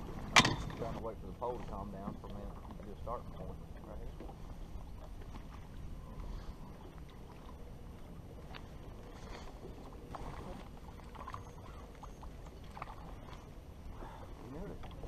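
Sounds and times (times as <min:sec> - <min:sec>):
boat low rumble: 0:00.0 - 0:15.0
water noise: 0:00.0 - 0:15.0.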